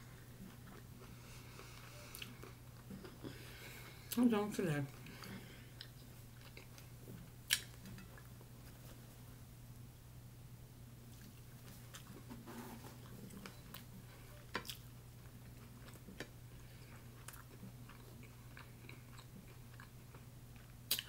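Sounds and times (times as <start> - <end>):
low steady hum: 0.0 - 21.0
faint chewing: 0.4 - 4.2, 4.9 - 8.9, 11.1 - 21.0.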